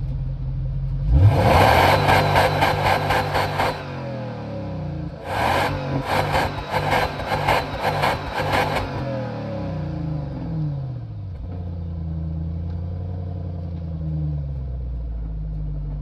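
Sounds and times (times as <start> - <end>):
car engine revving and idling: 0.0 - 16.0.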